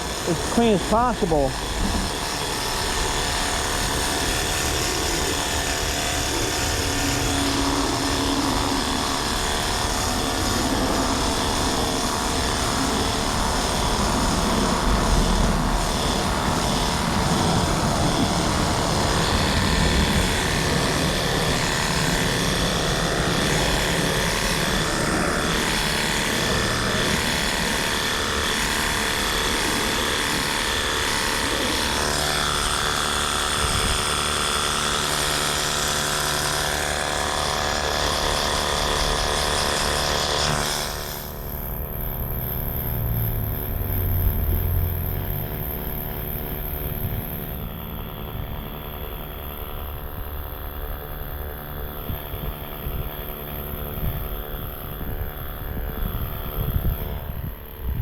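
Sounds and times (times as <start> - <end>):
mechanical engine-like drone: 0.0 - 58.0.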